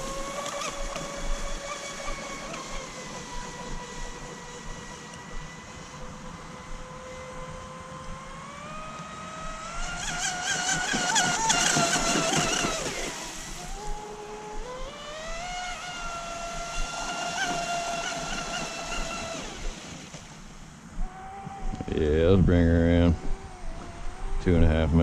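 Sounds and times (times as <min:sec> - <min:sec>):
boat motor and propeller whining: 0:00.0 - 0:25.0.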